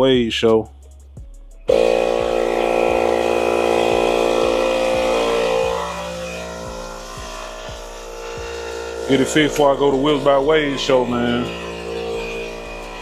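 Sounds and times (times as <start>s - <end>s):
portable air pump running: 1.7s - 13.0s.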